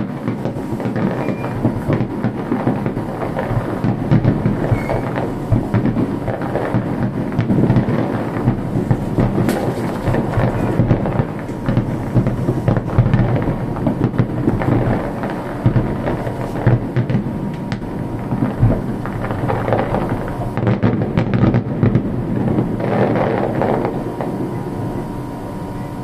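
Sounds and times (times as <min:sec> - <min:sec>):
fireworks cracks and pops: 0:00.0 - 0:24.4
fireworks booms rumbling: 0:00.0 - 0:26.0.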